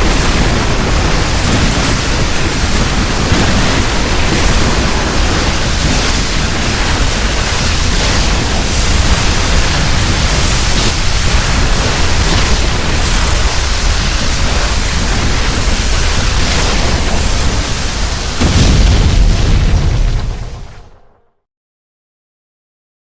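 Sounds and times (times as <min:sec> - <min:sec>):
loud rushing noise with rumble: 0:00.0 - 0:21.4.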